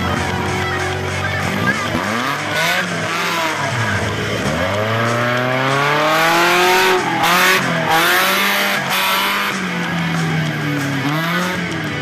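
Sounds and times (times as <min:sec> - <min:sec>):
buggy engine revving: 0:00.0 - 0:12.0.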